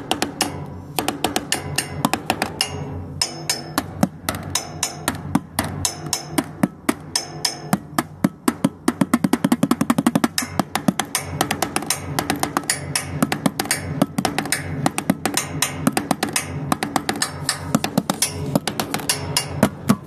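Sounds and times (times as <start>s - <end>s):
fast drumming on paint pots: 0.0s - 2.8s, 3.4s - 20.0s.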